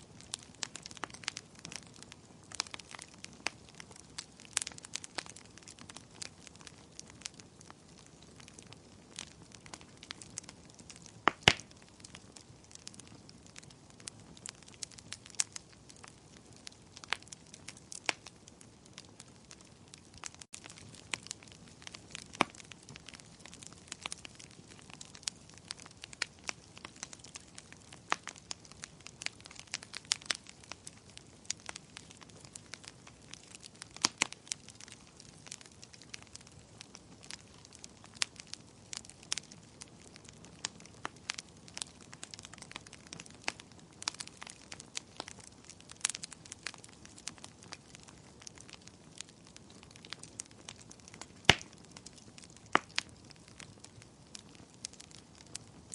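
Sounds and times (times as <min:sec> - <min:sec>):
soft steady hiss: 0:00.0 - 0:55.9
wood fire crackling and popping: 0:00.0 - 0:55.9.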